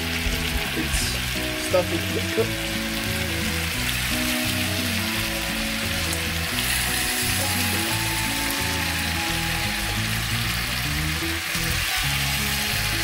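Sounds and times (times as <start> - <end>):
background music: 0.0 - 13.0
chicken sizzling in a pan: 0.0 - 13.0.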